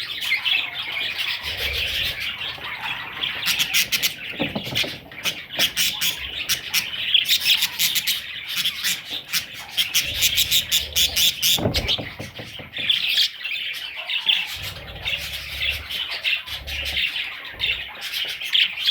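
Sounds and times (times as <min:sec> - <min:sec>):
budgerigars chirping: 0:00.0 - 0:18.9.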